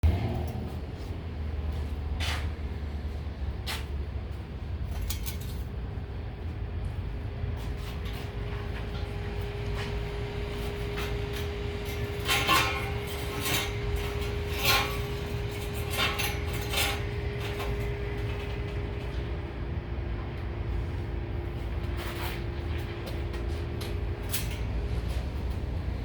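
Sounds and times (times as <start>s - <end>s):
steady humming drone: 0.0s - 26.0s.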